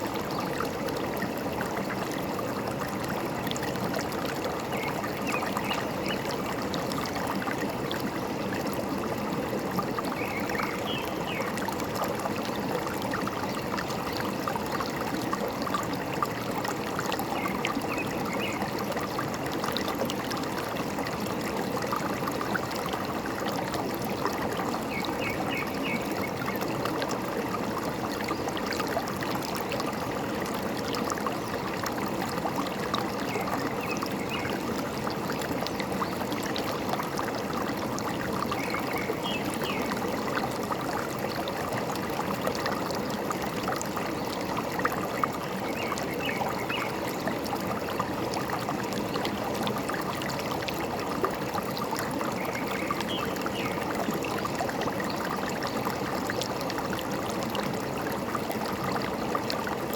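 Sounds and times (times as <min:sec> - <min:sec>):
stream trickling and gurgling: 0:00.0 - 0:59.9.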